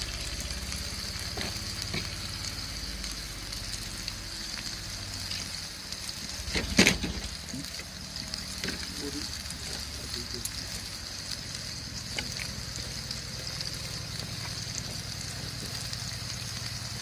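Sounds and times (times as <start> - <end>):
meat sizzling on hot stone: 0.0 - 17.0.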